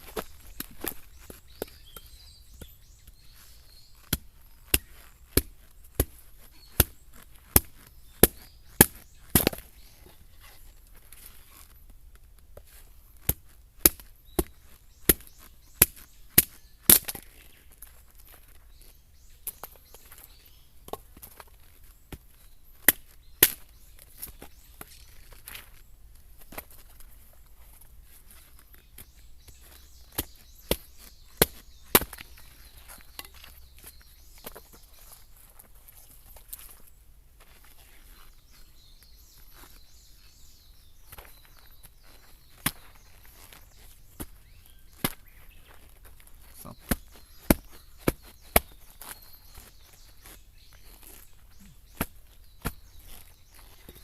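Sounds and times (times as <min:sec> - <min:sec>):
light outdoor background: 0:00.0 - 0:54.0.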